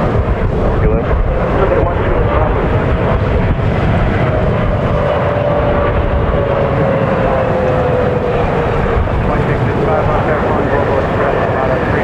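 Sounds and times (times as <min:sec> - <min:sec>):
heavy low rumble: 0:00.0 - 0:12.0
jet engines whining on approach: 0:00.0 - 0:12.0.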